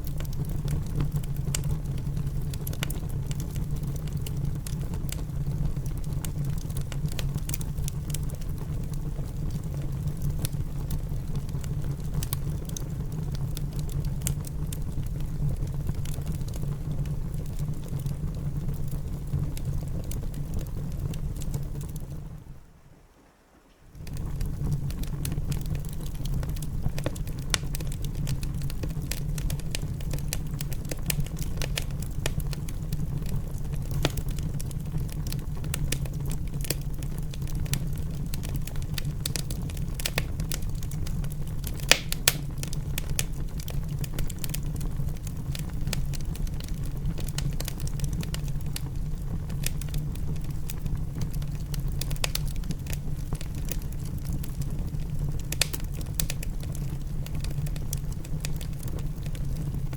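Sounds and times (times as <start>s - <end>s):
wood fire crackling and popping: 0.0s - 22.5s, 23.7s - 59.9s.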